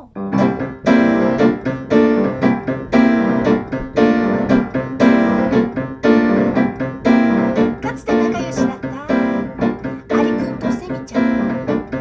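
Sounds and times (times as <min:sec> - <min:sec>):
piano playing repeated chords: 0:00.0 - 0:12.0.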